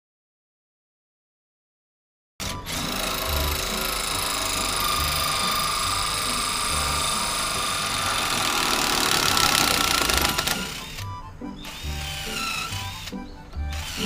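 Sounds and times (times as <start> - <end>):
power tool running: 2.4 - 14.0.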